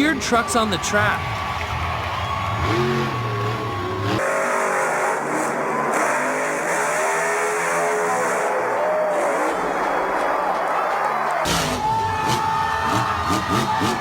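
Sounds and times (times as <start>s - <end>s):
monster truck engine revving: 1.2s - 10.3s, 11.4s - 14.0s.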